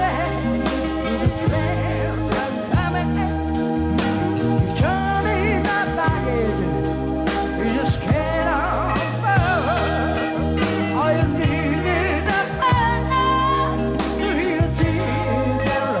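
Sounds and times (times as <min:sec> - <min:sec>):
soul rock band music: 0:00.0 - 0:16.0.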